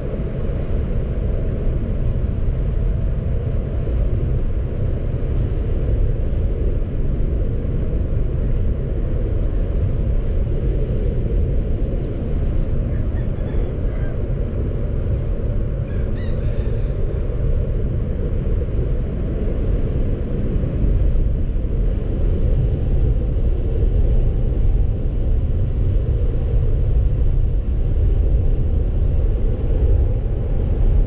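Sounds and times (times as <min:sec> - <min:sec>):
car driving low rumble: 0:00.0 - 0:31.0
wind noise: 0:00.0 - 0:31.0.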